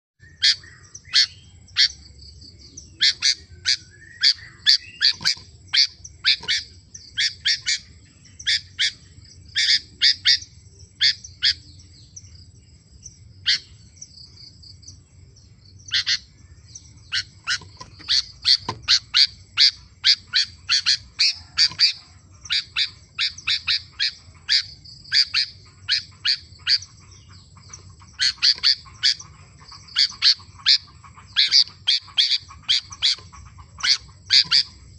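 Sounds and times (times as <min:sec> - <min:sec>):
bird chirping: 0:00.2 - 0:34.9.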